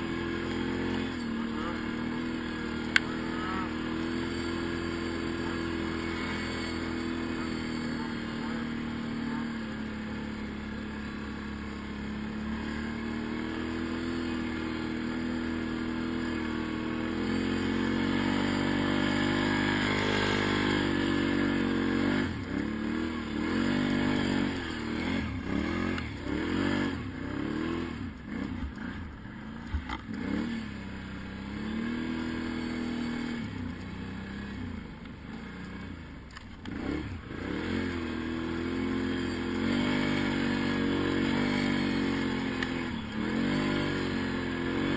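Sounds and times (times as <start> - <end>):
quad bike engine revving: 0.0 - 44.9.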